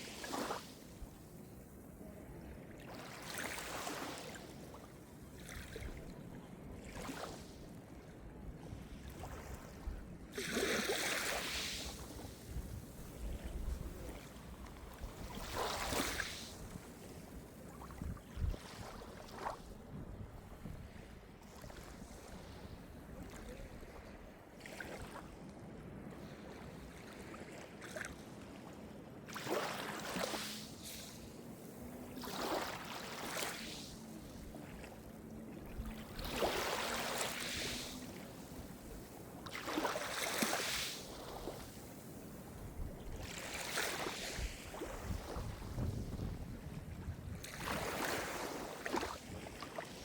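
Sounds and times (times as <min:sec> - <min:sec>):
small waves breaking on shore: 0:00.0 - 0:50.0.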